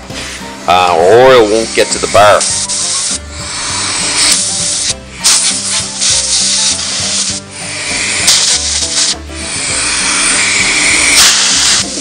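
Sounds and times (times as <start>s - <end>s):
compressed air blow gun hissing: 0.0s - 12.0s.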